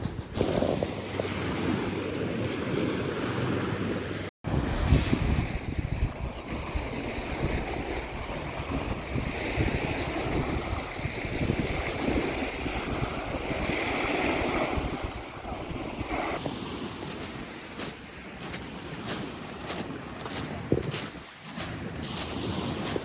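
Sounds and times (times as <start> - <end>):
wind gusting on microphone: 0.0 - 23.0.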